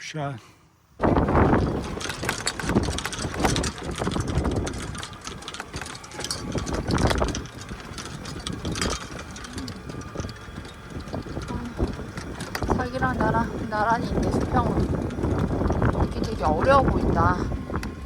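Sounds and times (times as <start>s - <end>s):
engine low rumble: 1.0s - 18.0s
rattles and knocks: 1.0s - 18.0s.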